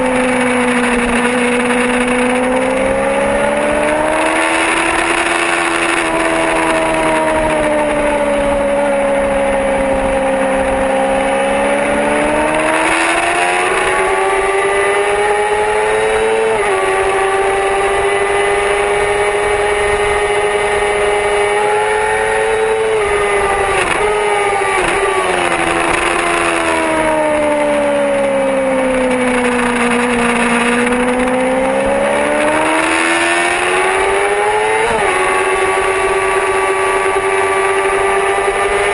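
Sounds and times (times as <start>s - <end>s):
quick gear changes: 0.0s - 38.9s
sport bike engine revving: 0.0s - 38.9s
steady rushing noise: 0.0s - 38.9s.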